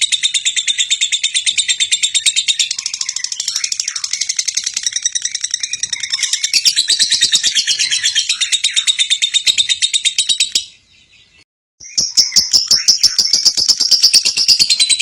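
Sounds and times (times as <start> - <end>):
lovebird chattering trill: 0.0 - 10.8, 11.8 - 15.0.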